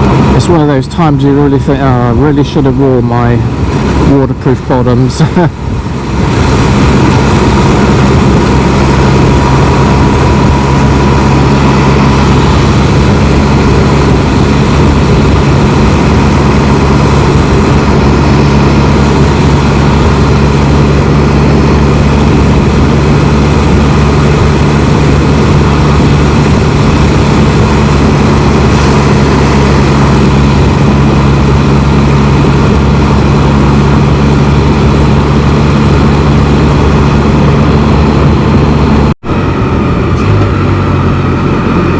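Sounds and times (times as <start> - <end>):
motorcycle engine humming: 0.0 - 41.9
wind and road noise: 0.0 - 41.9.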